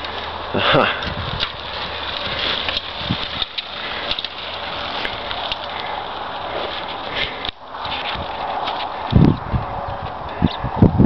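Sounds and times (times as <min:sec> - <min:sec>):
bicycle rolling over rough ground: 0:00.0 - 0:11.0.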